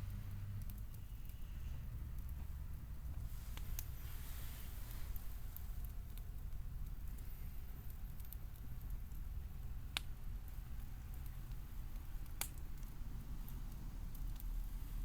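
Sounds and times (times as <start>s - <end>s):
campfire burning: 0.0s - 15.0s
fire popping: 0.0s - 15.0s.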